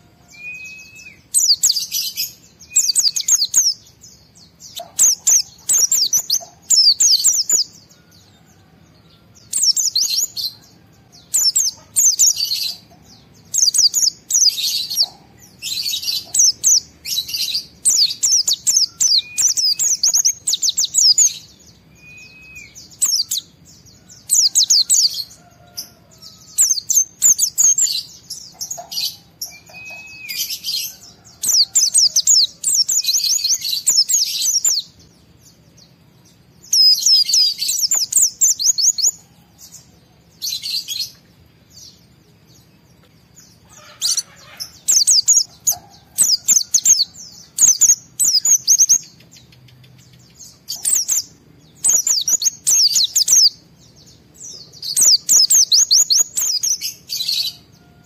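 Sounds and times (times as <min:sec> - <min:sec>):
bird chattering song: 0:00.0 - 0:58.0.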